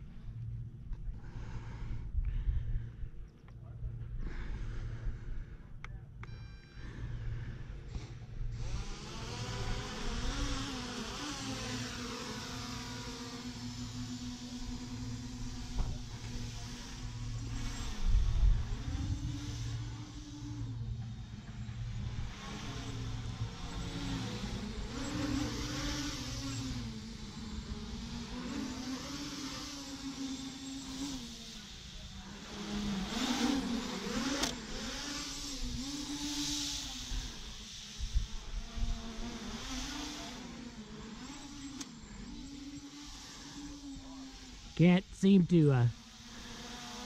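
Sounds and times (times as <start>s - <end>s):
motorcycle engine buzzing: 5.9s - 44.9s, 45.6s - 47.0s
wind or road noise hiss: 7.0s - 47.0s.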